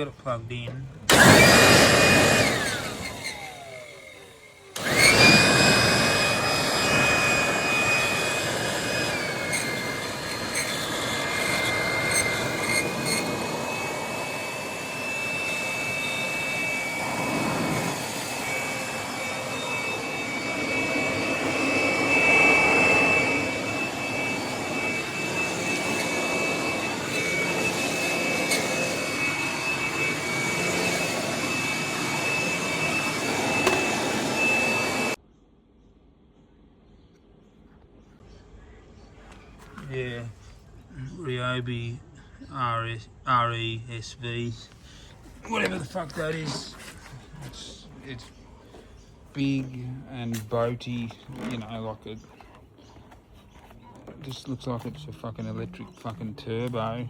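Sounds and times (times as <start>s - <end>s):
leaf blower whine: 1.0s - 35.2s, 44.8s - 57.0s.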